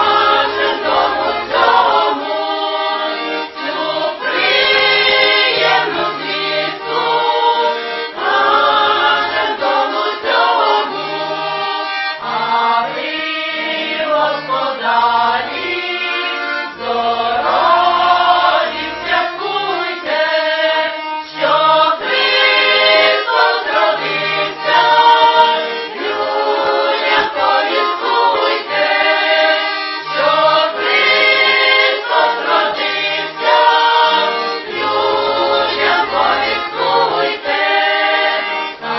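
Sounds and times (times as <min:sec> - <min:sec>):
accordion: 0:00.0 - 0:38.9
women's choir singing a carol: 0:00.0 - 0:38.9.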